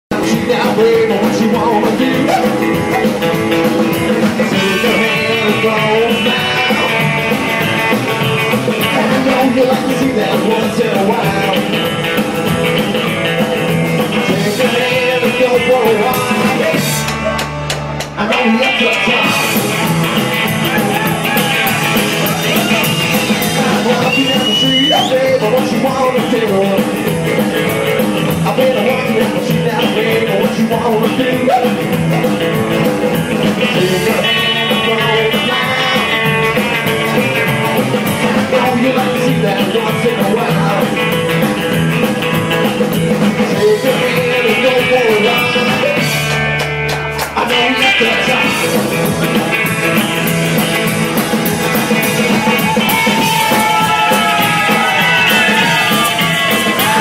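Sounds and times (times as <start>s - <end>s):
rockabilly band playing: 0.1s - 57.0s.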